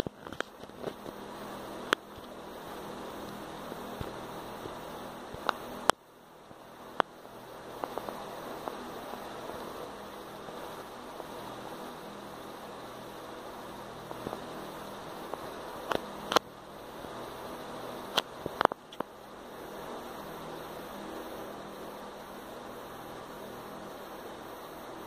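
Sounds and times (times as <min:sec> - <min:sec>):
background hiss and hum: 0:00.0 - 0:25.0.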